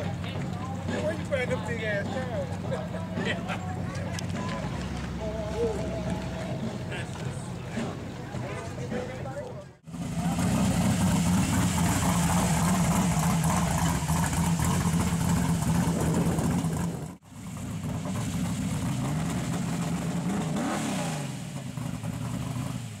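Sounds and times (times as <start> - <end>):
truck engine running and revving: 0.0 - 23.0.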